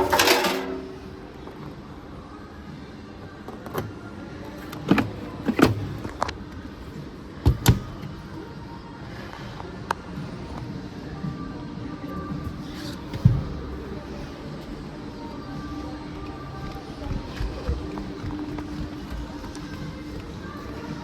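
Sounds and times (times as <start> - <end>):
shop background hum: 0.0 - 21.0.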